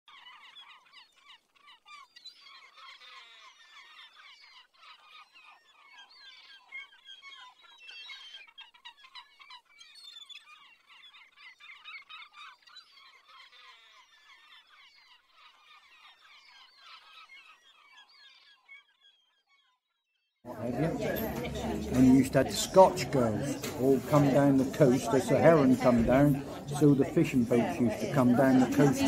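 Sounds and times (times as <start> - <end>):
flock of birds chirping: 0.1 - 19.9, 20.5 - 29.0.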